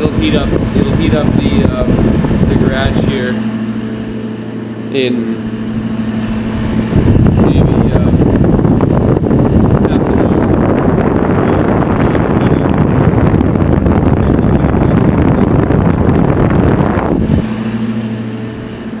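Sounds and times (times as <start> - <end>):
electric fan blowing air: 0.0 - 19.0
steady hum: 0.0 - 19.0.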